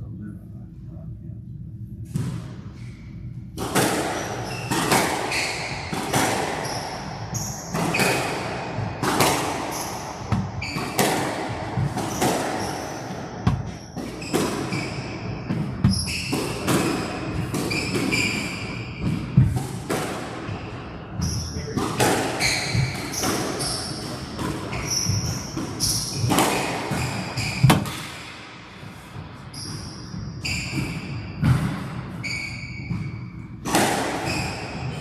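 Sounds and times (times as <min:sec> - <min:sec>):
squash ball hitting rackets and walls: 0:02.0 - 0:35.0
shoes squeaking on court floor: 0:02.7 - 0:19.6, 0:20.5 - 0:28.0, 0:29.4 - 0:35.0.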